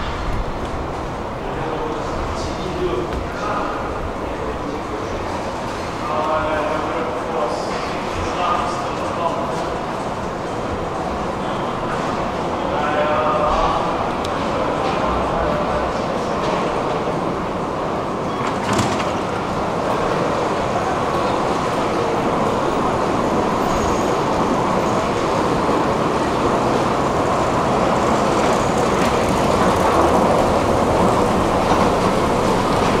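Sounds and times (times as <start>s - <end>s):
escalator machinery rumbling: 0.0s - 33.0s.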